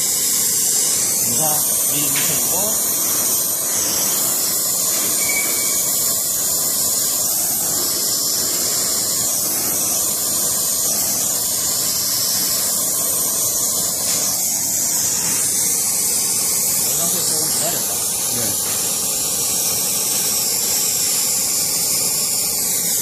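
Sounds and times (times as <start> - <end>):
torch flame hissing: 0.0 - 23.0.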